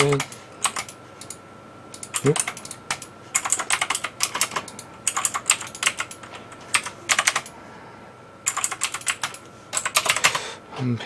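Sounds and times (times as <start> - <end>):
computer keyboard typing: 0.0 - 7.5, 8.4 - 10.4.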